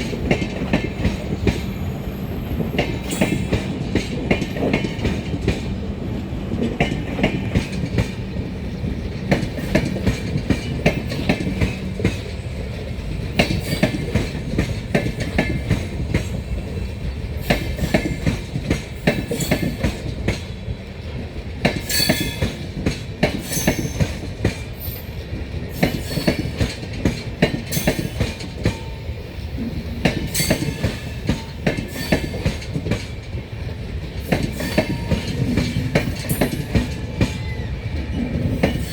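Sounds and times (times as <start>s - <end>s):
train rumbling along track: 0.0s - 38.9s
wheels clicking over rail joints: 6.5s - 29.0s, 29.6s - 38.9s.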